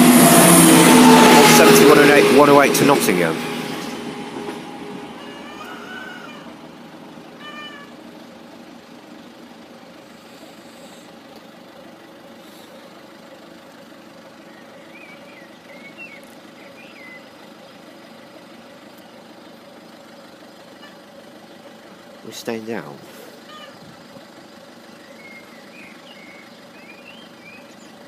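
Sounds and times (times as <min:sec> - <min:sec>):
vehicle engine idling hum: 0:00.0 - 0:28.0.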